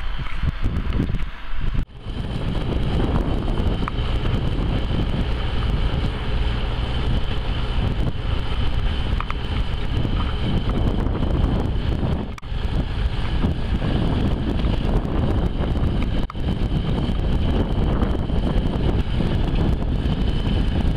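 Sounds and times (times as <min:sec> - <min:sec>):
wind buffeting microphone: 0:00.0 - 0:20.9
tractor diesel engine running: 0:01.8 - 0:20.9.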